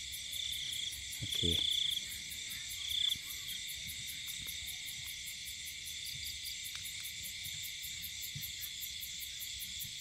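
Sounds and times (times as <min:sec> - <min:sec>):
insect buzz: 0:00.0 - 0:10.0
insects trilling: 0:00.0 - 0:10.0.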